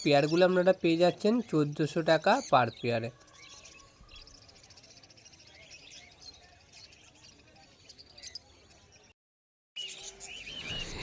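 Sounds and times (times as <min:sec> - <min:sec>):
caged birds chirping: 0:00.0 - 0:09.2, 0:09.8 - 0:11.0.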